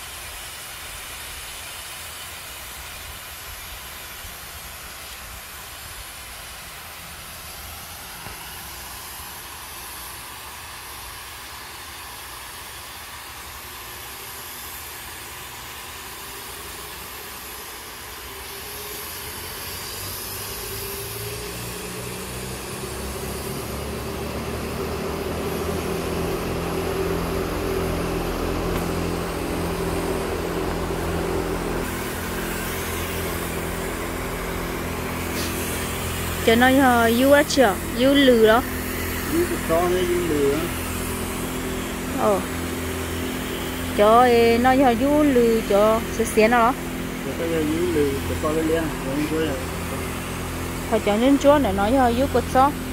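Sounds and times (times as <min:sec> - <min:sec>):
steady hiss: 0:00.0 - 0:52.9
low machine hum: 0:02.8 - 0:52.9.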